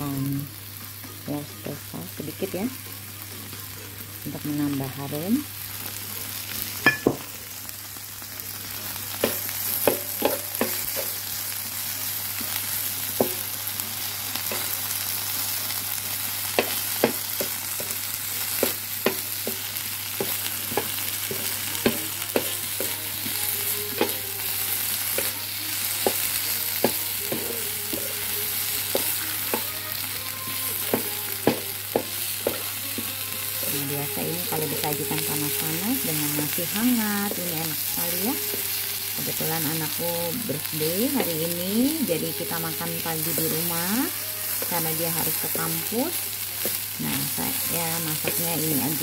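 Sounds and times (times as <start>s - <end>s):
food sizzling on a griddle: 0.0s - 49.0s.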